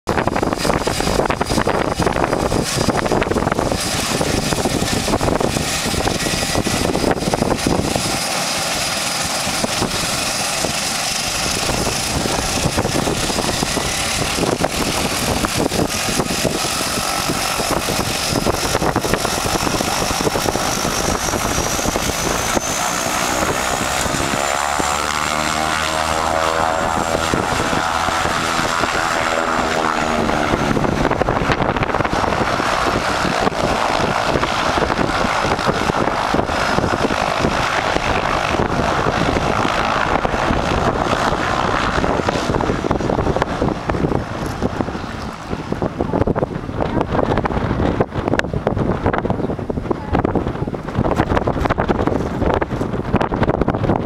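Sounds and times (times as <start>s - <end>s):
propeller drone: 0.0s - 54.0s
high turbine whine: 0.1s - 54.0s.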